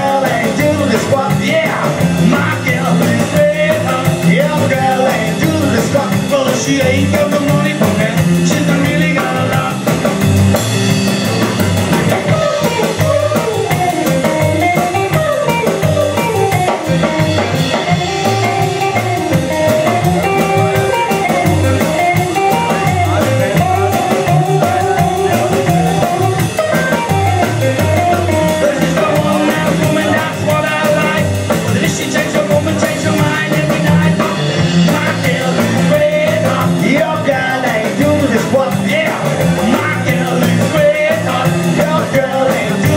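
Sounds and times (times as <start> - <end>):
electric guitar: 0.0 - 42.9
steady drum beat: 0.0 - 42.9
walking bass line: 0.0 - 42.9.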